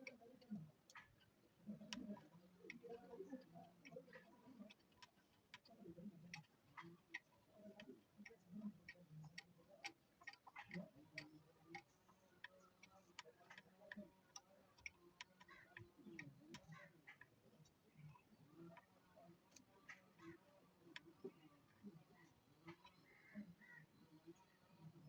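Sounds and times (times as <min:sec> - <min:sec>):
light clicks and taps: 0:00.0 - 0:22.0.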